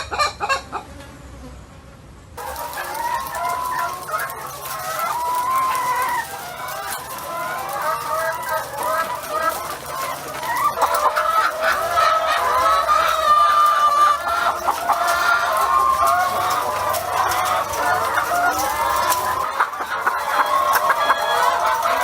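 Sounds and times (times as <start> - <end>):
hens clucking and calling: 0.0 - 0.9, 2.4 - 22.0.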